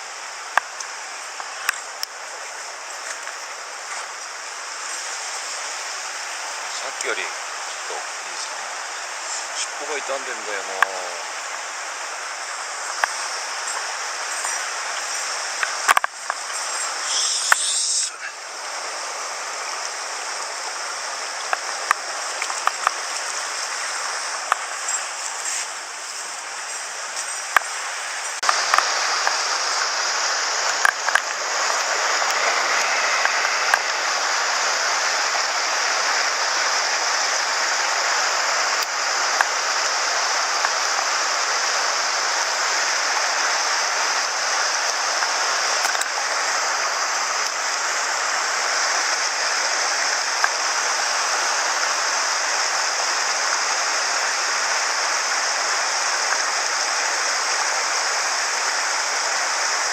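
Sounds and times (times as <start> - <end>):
stream rushing: 0.0 - 59.9.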